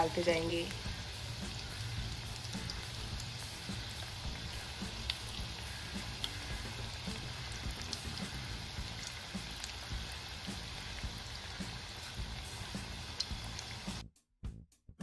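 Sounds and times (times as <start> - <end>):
fritters deep-frying in oil: 0.0 - 14.0
oil crackling and popping: 0.5 - 14.0.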